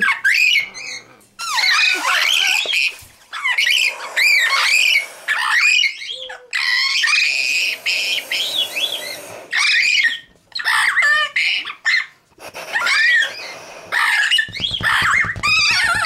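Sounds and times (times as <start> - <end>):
parrots squawking: 0.0 - 16.0.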